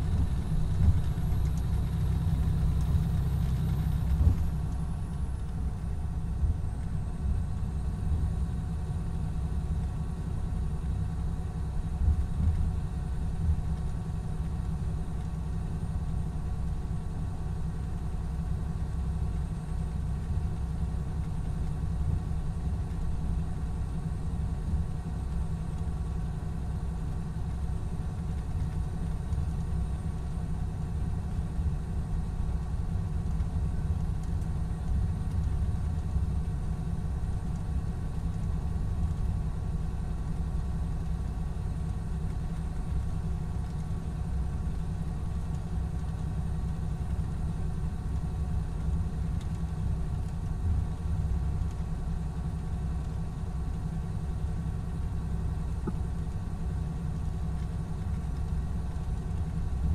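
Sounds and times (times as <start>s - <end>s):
diesel coach engine running: 0.0s - 59.9s.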